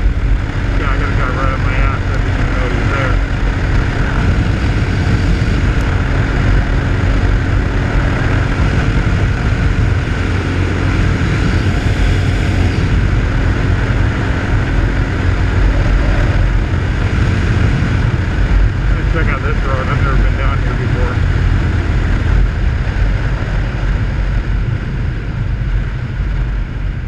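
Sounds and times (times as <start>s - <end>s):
motorcycle engine drone: 0.0s - 27.0s
wind buffeting microphone: 0.0s - 27.0s.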